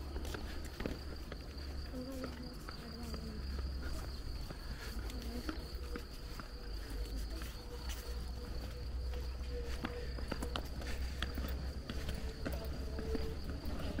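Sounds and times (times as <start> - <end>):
footsteps on asphalt: 0.0 - 14.0.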